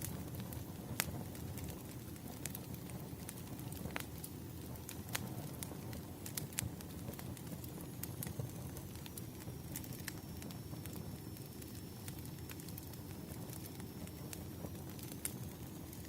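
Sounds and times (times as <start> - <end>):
firewood crackling and popping: 0.0 - 16.0
low rumble of fire: 0.0 - 16.0.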